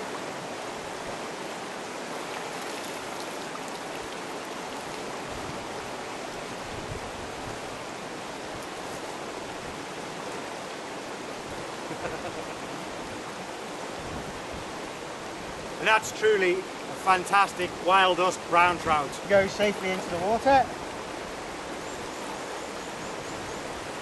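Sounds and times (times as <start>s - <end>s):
river running over stones: 0.0s - 24.0s.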